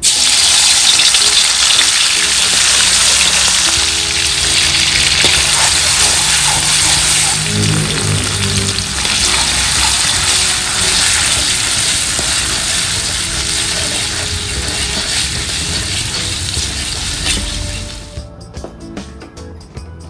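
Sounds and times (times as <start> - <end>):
paste sizzling in hot oil: 0.0 - 18.1
spatula scraping metal wok: 1.0 - 18.1.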